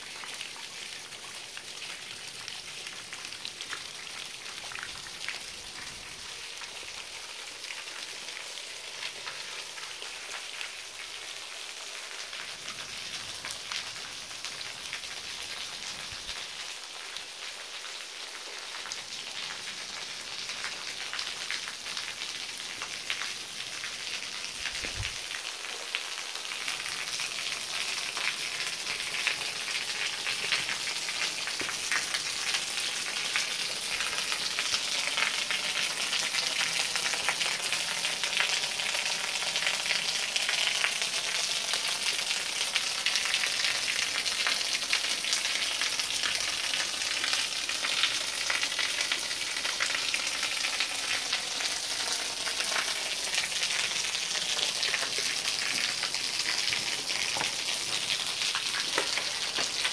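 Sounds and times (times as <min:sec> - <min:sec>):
waterfall splashing onto stones: 0:00.0 - 0:59.9.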